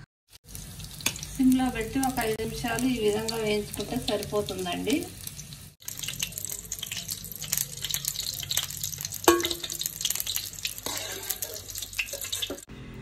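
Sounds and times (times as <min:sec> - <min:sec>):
cauliflower sizzling in hot oil: 0:00.3 - 0:12.7.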